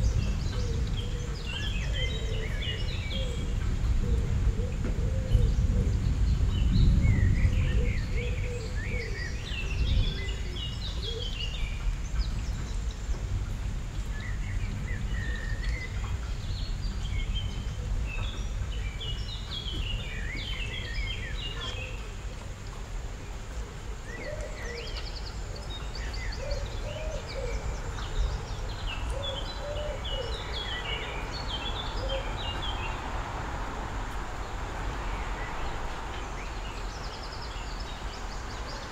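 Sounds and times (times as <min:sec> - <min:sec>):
small birds chirping: 0:05.4 - 0:38.9.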